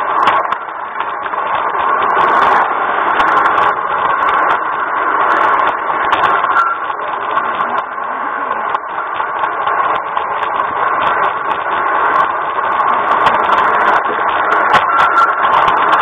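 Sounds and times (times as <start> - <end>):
wheels clicking on track: 0.0 - 16.0.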